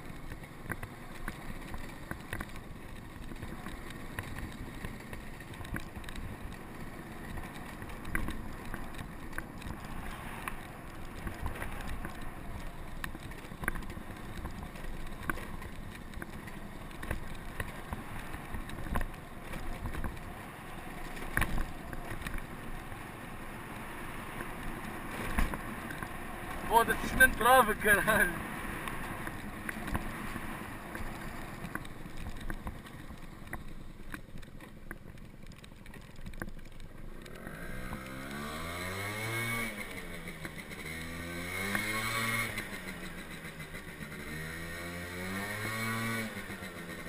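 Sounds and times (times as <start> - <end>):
road rumble: 0.0 - 47.0
scooter rattling over bumps: 0.0 - 47.0.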